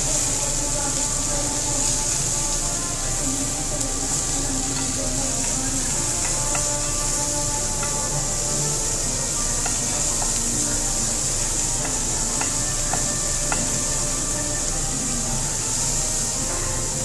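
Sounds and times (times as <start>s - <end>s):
beef sizzling on grill: 0.0s - 17.0s.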